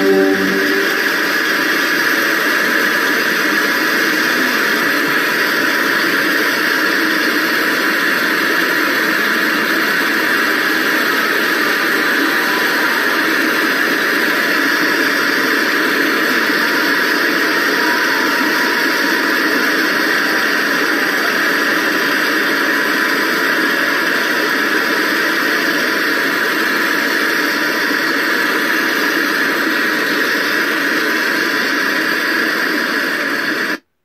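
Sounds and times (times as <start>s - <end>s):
steady record noise: 0.0s - 34.0s.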